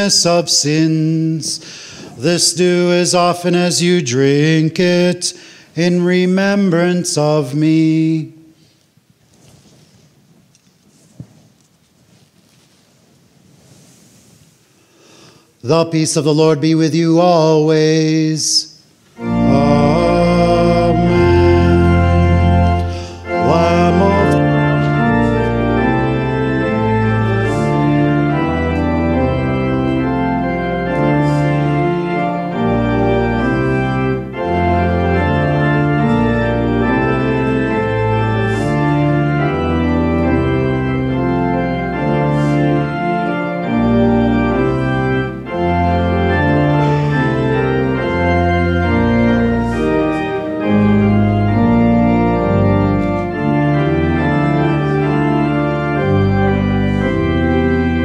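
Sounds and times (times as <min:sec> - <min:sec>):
church organ chords: 0:00.0 - 0:08.7, 0:15.1 - 0:58.0.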